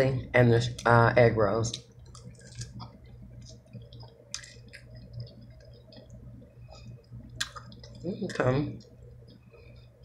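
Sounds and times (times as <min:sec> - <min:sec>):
wet chewing and lip smacks: 0:01.7 - 0:09.9.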